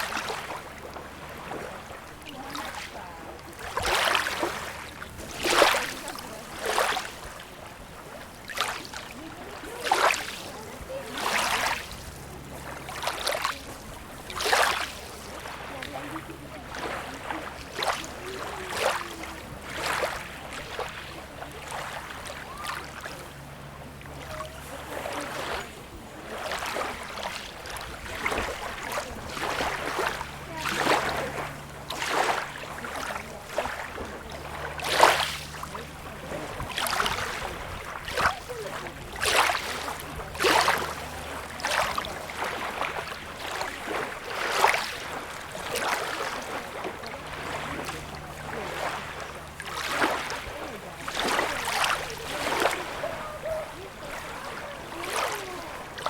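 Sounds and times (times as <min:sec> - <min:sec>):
low steady hum: 0:00.0 - 0:56.0
small waves lapping and splashing: 0:00.0 - 0:56.0.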